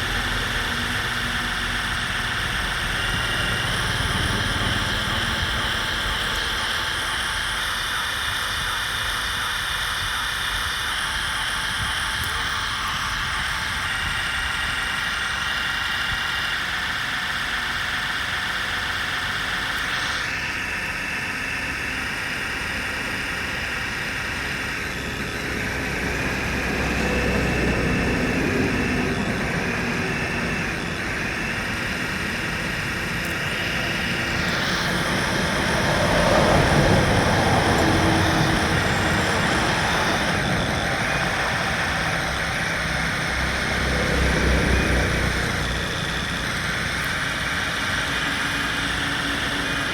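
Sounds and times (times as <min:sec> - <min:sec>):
mechanical whine of model vehicles: 0:00.0 - 0:49.9.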